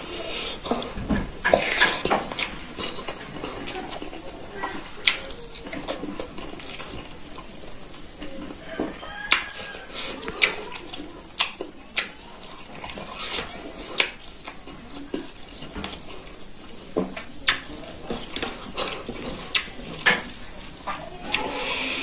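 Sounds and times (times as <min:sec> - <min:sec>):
steady hiss: 0:00.0 - 0:22.0
wet chewing: 0:00.0 - 0:22.0.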